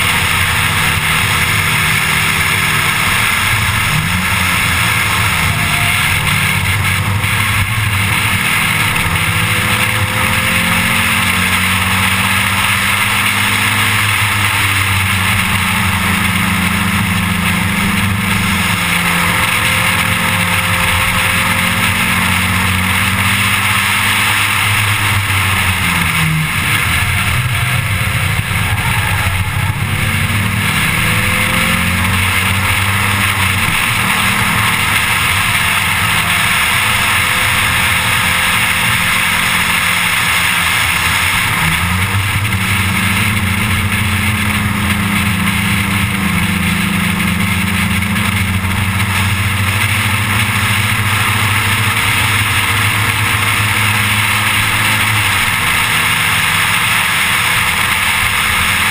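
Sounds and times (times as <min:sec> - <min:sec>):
race car engine running hard: 0:00.0 - 0:58.9
wind and road noise: 0:00.0 - 0:58.9.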